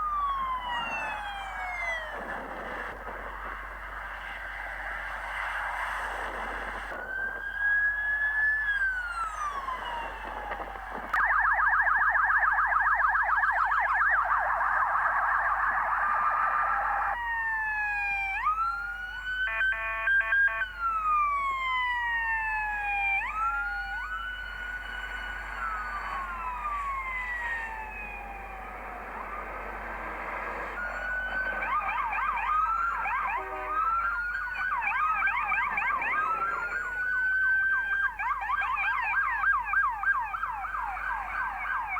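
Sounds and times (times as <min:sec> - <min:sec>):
police car sirens: 0:00.0 - 0:41.9.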